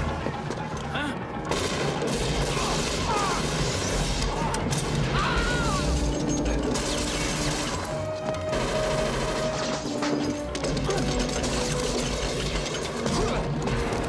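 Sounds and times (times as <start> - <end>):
film score music: 0.0 - 14.0.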